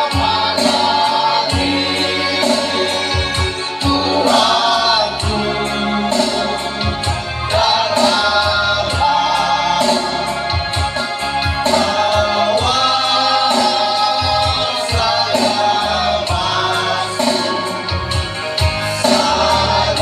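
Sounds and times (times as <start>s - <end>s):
instrumental backing with steady beat: 0.0s - 20.0s
men singing a hymn: 0.0s - 20.0s.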